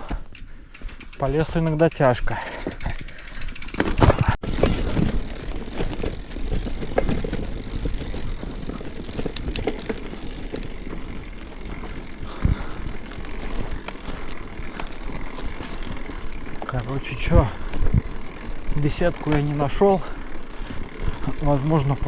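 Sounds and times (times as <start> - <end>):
bike rattling and knocking: 0.0 - 22.0
bike tyres rumbling on rough ground: 0.0 - 22.0.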